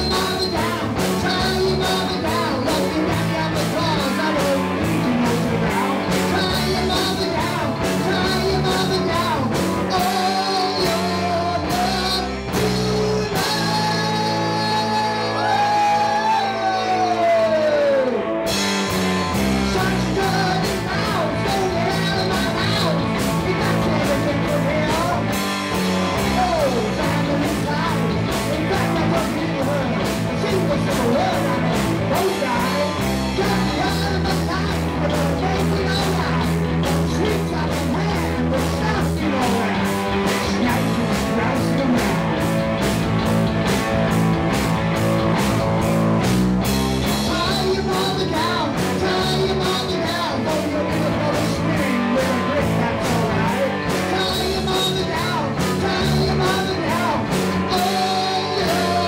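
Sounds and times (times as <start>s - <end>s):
drum kit beat: 0.0s - 17.6s, 18.4s - 59.0s
man singing: 0.0s - 44.3s, 47.0s - 59.0s
bass guitar: 0.0s - 59.0s
electric guitars: 0.0s - 59.0s.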